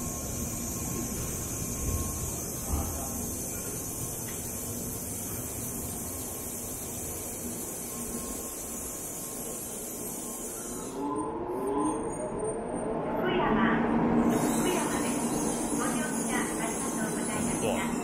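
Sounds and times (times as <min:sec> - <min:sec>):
hiss and hum of standing train: 0:00.0 - 0:11.6, 0:13.2 - 0:18.0.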